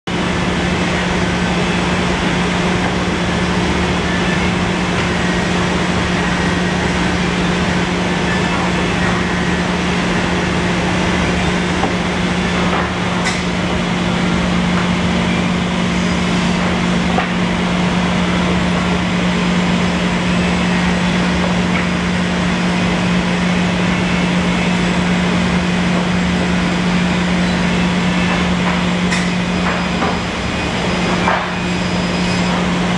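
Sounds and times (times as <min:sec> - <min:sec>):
workshop machinery droning: 0:00.1 - 0:32.9.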